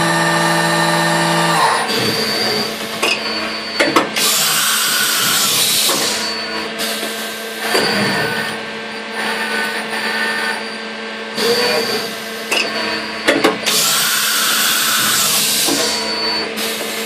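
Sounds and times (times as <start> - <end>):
milling machine motor hum: 0.0 - 17.0.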